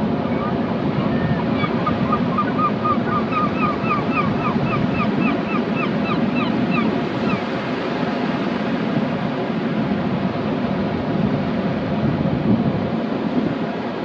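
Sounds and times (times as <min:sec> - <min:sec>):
surf washing: 0:00.0 - 0:14.0
wind: 0:00.0 - 0:14.0.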